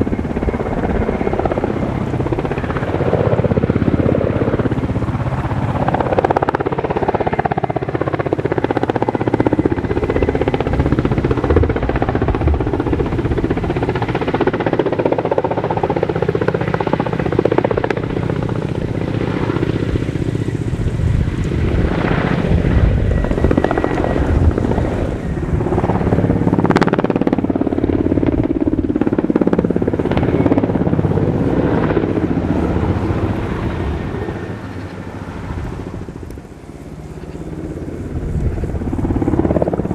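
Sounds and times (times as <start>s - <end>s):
helicopter engine noise: 0.0s - 39.9s
helicopter rotor beating: 0.0s - 39.9s.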